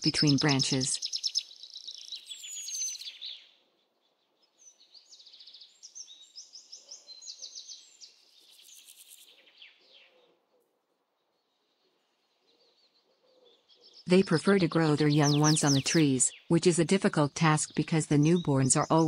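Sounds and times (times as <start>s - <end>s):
birds chirping trills: 0.0s - 10.4s, 11.2s - 19.0s.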